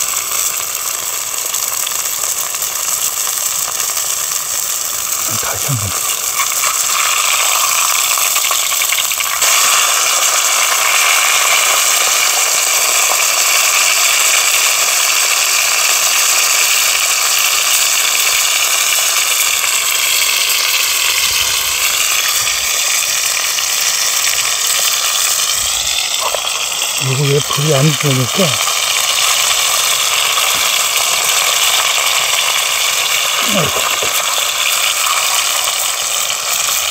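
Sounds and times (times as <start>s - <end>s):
hot oil sizzling: 0.0s - 36.9s.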